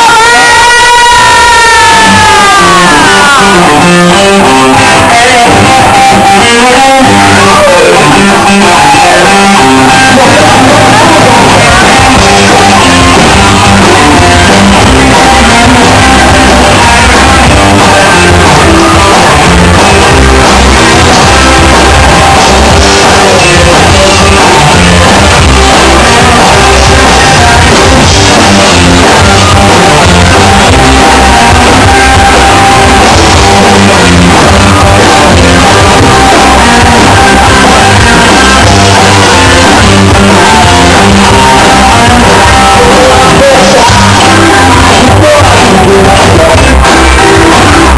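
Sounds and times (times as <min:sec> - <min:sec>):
loud music with guitar and singing: 0:00.0 - 0:47.9.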